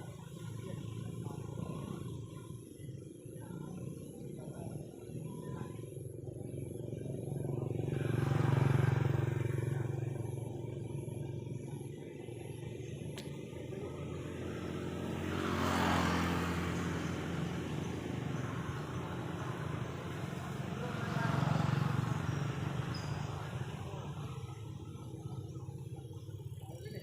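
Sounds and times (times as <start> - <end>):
vehicles passing on road: 0.0 - 27.0.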